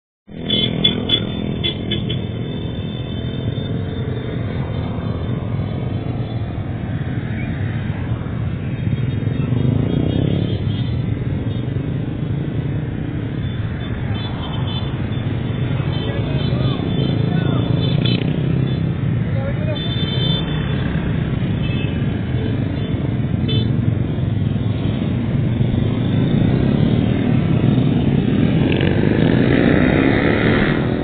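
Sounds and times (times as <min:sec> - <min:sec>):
motorcycles riding past: 0:00.3 - 0:31.0.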